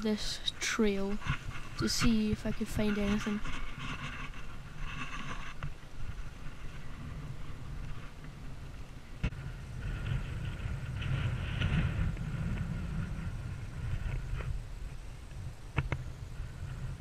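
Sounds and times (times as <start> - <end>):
mountain bike rolling on mud: 0.0 - 17.0
wind rumbling on microphone: 0.0 - 17.0.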